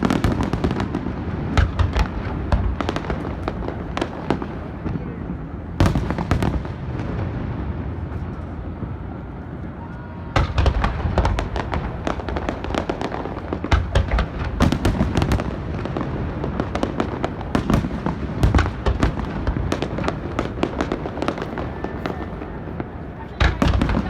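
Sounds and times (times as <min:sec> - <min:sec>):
fireworks bangs and crackles: 0:00.0 - 0:24.0
fireworks booms: 0:00.0 - 0:24.0.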